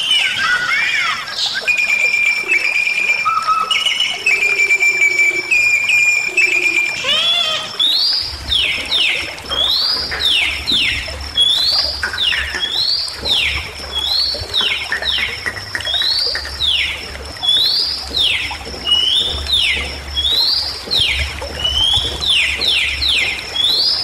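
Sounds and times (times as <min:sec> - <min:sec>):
bird whistling song: 0:00.0 - 0:24.0.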